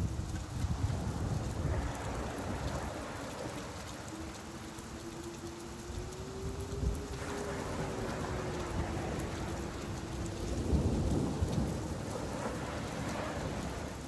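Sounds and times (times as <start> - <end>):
low roll of thunder: 0.0 - 14.0
steady rain falling: 0.0 - 14.0.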